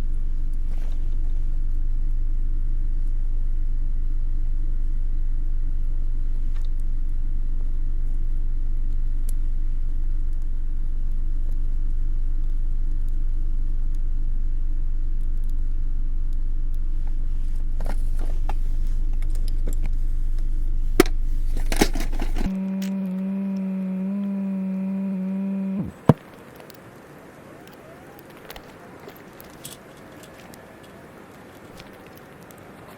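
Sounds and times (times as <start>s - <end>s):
low buzzing drone: 0.0s - 29.0s.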